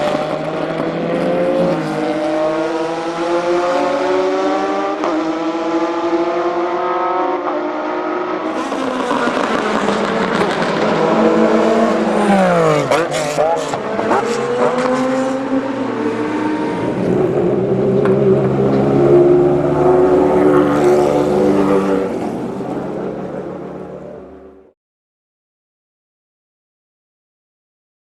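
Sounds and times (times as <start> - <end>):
racing engine revving: 0.0 - 24.6.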